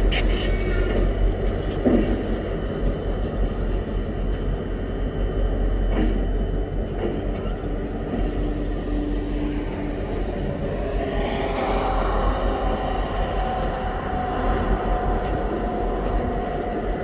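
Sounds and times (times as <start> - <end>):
freight train rolling rumble: 0.0 - 17.0.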